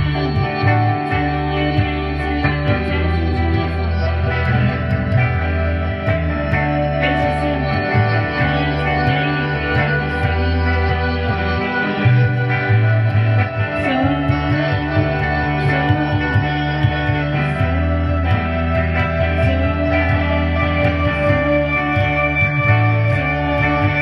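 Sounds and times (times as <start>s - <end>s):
guitar through effects: 0.0s - 24.0s
sustained low notes: 0.0s - 24.0s.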